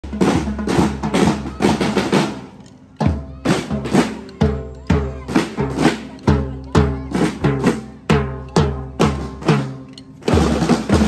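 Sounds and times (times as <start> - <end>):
marching snare and bass drums: 0.0 - 11.0.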